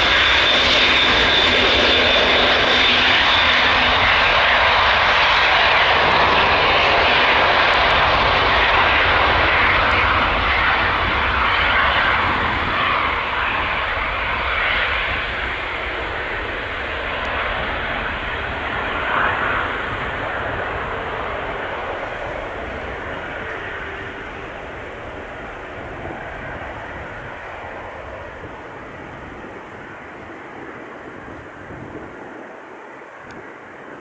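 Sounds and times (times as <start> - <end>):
jet engines running loud: 0.0 - 34.0.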